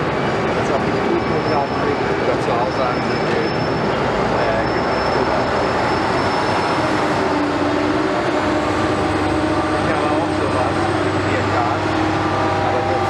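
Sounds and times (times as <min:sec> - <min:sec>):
diesel engines running: 0:00.0 - 0:13.0.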